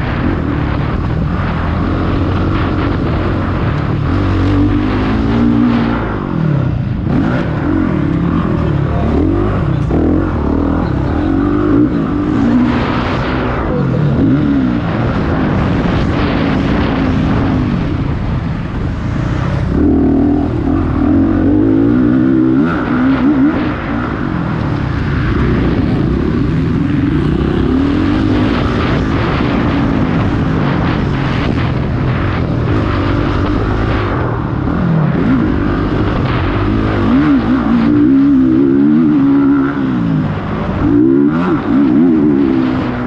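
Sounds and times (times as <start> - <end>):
motocross engines revving: 0.0 - 43.0.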